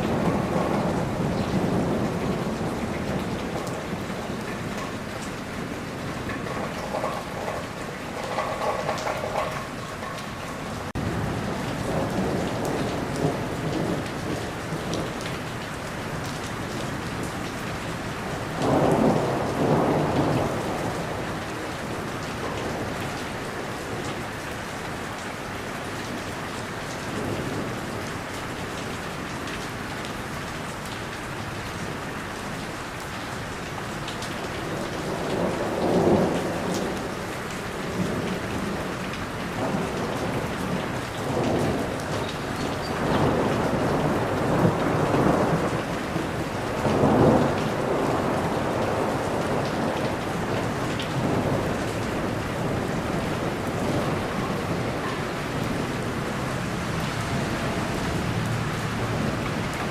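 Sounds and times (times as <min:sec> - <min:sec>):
thunder rumbling: 0:00.0 - 0:24.4, 0:34.4 - 0:59.9
steady rain falling: 0:00.0 - 0:59.9.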